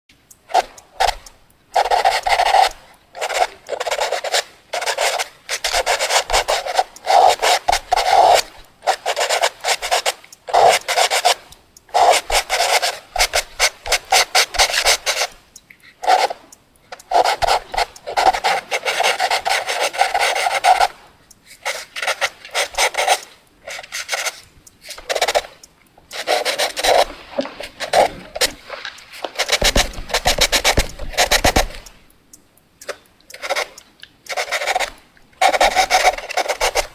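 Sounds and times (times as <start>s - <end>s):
pencil scribbling on paper: 0.5s - 15.4s, 16.0s - 16.4s, 17.0s - 32.0s, 33.4s - 36.9s.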